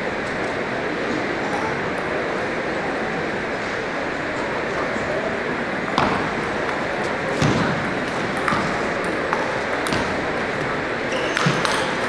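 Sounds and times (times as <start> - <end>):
hall background noise: 0.0 - 12.0.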